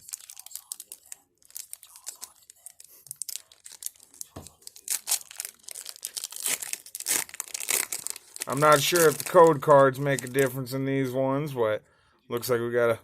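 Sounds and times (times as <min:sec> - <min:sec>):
foil wrapper tearing and crinkling: 0:00.0 - 0:10.5.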